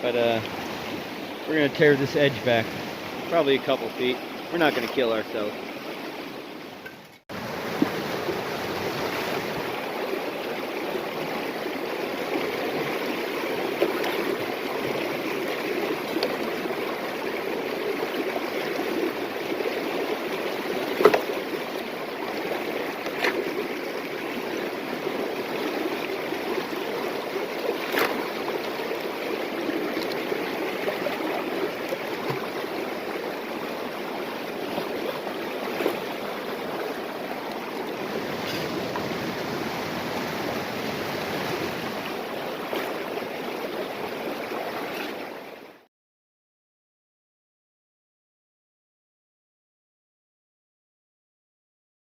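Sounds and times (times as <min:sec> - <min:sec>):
river water rushing: 0:00.1 - 0:45.7.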